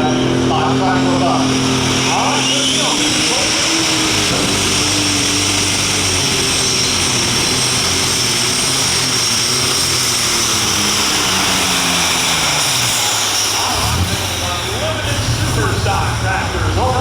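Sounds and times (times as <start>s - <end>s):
tractor engine revving: 0.0s - 17.0s
turbo whine: 0.0s - 17.0s.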